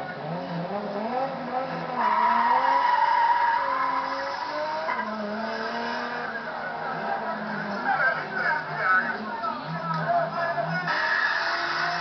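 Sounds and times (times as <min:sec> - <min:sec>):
race car engine: 0:00.0 - 0:12.0.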